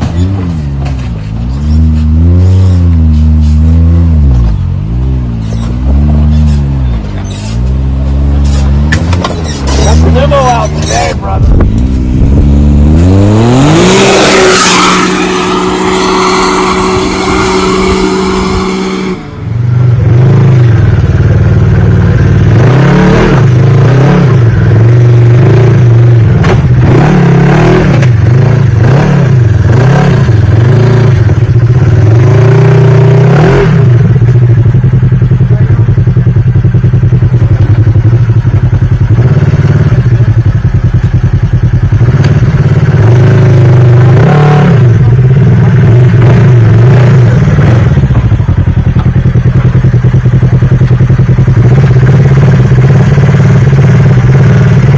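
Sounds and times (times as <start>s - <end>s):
clatter: 0.0s - 4.7s, 5.3s - 12.5s, 20.6s - 32.2s, 33.6s - 54.9s
engine revving up and down: 0.0s - 34.4s, 39.0s - 40.2s, 41.9s - 54.9s
off-road engine at high revs: 0.0s - 54.9s.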